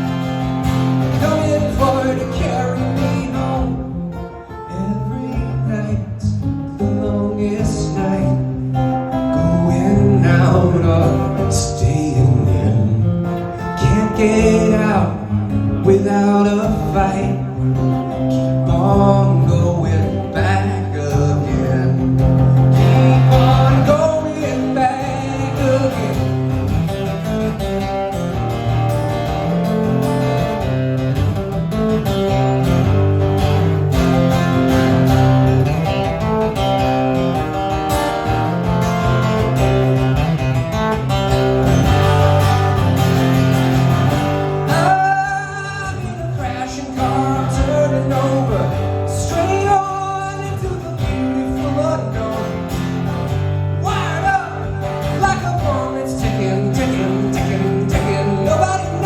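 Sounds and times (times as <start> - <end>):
guitar strumming chords: 0.0 - 59.0.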